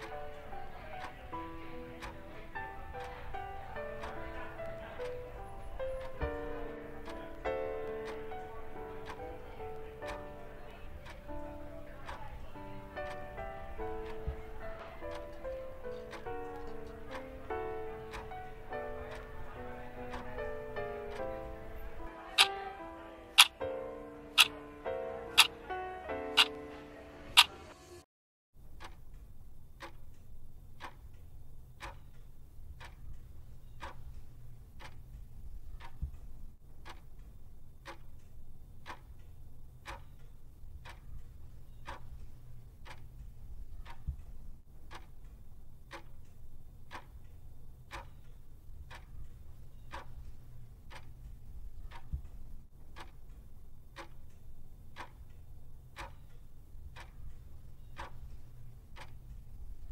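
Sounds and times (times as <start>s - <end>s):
wall clock ticking: 0.0s - 22.7s, 23.3s - 26.6s, 28.6s - 59.9s.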